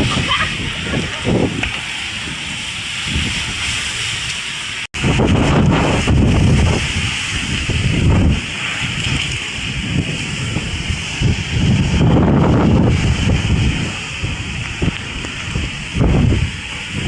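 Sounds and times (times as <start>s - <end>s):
steady hiss of wind: 0.0s - 17.0s
strong wind buffeting microphone: 0.0s - 17.0s.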